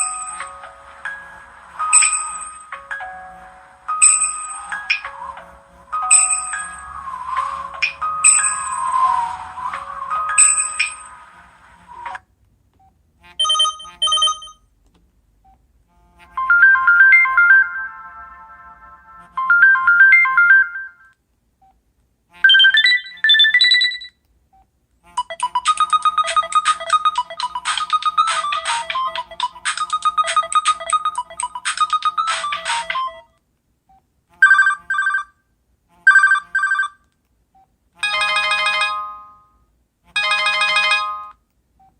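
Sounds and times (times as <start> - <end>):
mobile phone ringtones: 0.0 - 12.2, 13.3 - 14.7, 16.2 - 21.2, 22.4 - 24.2, 25.1 - 33.3, 34.3 - 35.4, 36.1 - 37.1, 38.0 - 41.4.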